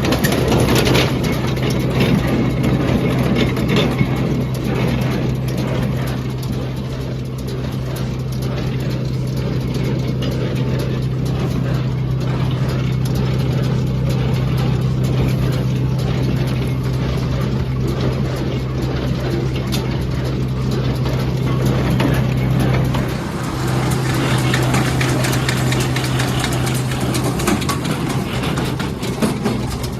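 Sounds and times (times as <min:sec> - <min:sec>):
tractor engine droning: 0:00.0 - 0:29.9.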